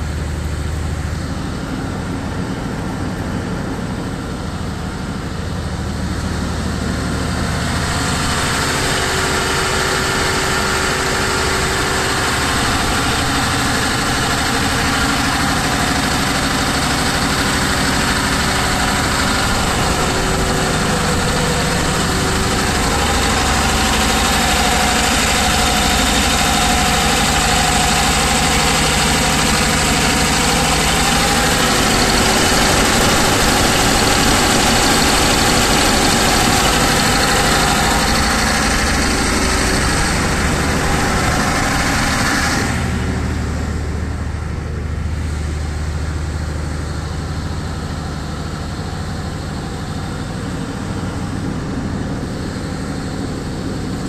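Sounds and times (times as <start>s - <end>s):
alternator hum: 0.0s - 54.0s
diesel generator engine rumble: 0.0s - 54.0s.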